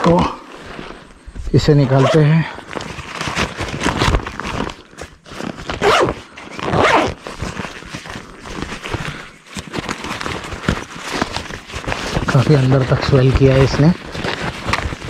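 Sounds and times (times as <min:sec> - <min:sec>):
rasping rustling handling noises: 0:00.0 - 0:15.0.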